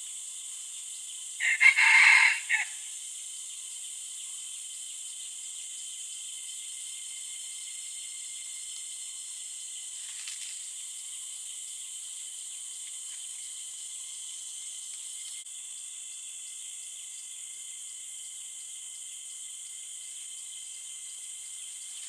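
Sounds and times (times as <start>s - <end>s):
insects chorus: 0.0s - 22.0s
pulsing insect call: 0.0s - 22.0s.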